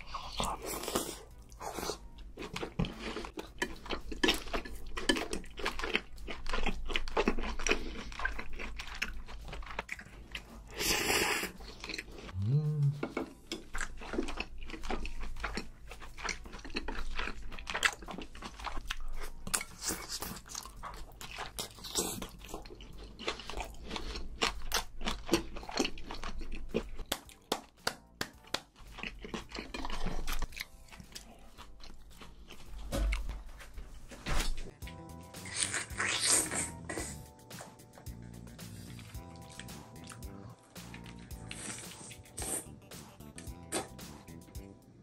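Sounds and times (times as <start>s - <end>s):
crunchy chewing of food: 0.0s - 27.7s, 28.4s - 33.7s, 34.6s - 44.6s
wet mouth sounds: 6.6s - 33.3s, 34.8s - 44.7s.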